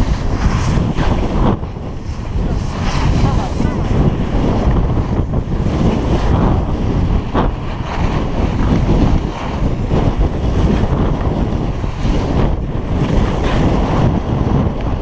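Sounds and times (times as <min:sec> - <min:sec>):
skis scraping on snow: 0:00.0 - 0:15.0
wind buffeting microphone: 0:00.0 - 0:15.0.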